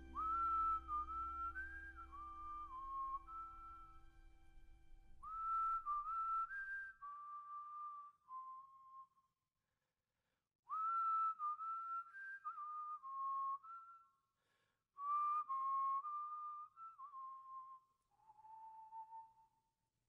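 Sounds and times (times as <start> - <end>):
person whistling a slow melody: 0.0 - 4.0, 5.2 - 9.3, 10.7 - 19.7.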